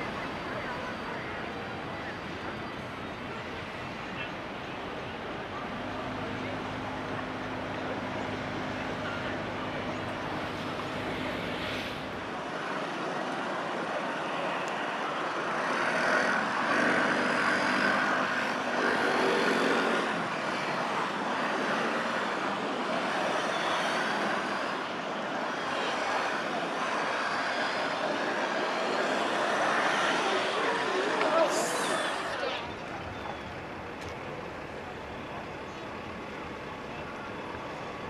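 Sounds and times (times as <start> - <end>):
trams running with whining tones: 0.0 - 38.0.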